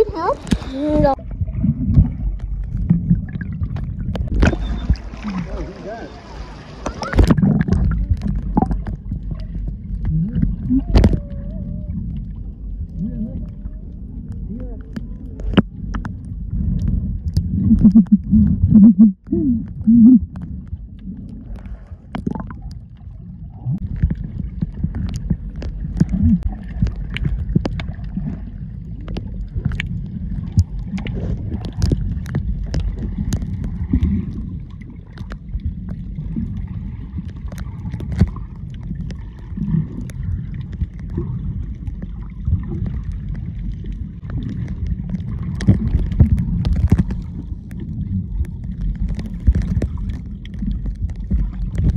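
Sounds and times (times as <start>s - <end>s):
muffled underwater rumble: 0.0s - 51.9s
sharp clicks and crackles: 1.6s - 5.0s, 6.8s - 51.9s.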